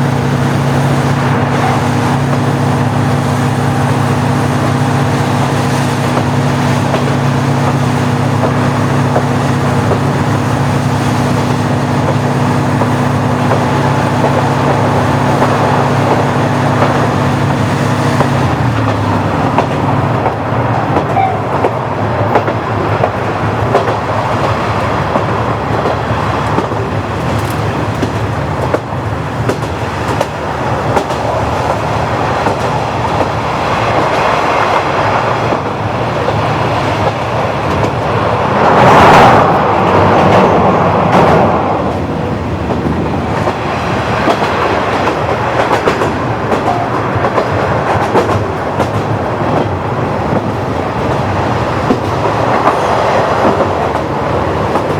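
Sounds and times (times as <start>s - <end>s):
diesel railcar engine: 0.0s - 54.9s
train rumble: 0.0s - 54.9s
wheels clicking over rail joints: 5.6s - 54.9s.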